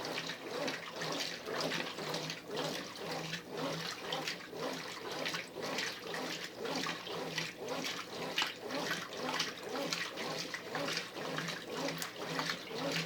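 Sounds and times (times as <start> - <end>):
washing machine motor humming: 0.0 - 13.0
water and clothes sloshing: 0.0 - 13.0.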